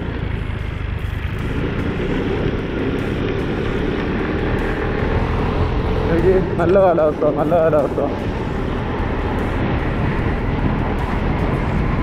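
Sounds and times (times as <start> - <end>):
scooter engine rumbling: 0.0 - 12.0.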